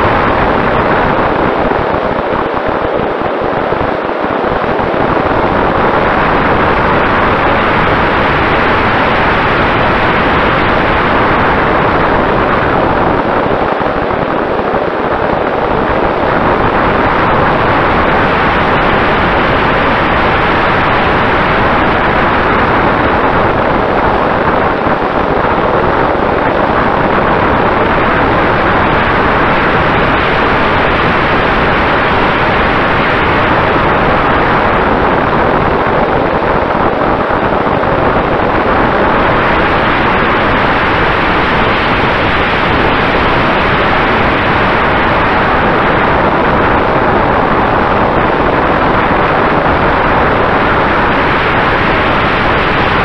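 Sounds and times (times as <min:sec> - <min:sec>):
wind rush: 0:00.0 - 0:53.0.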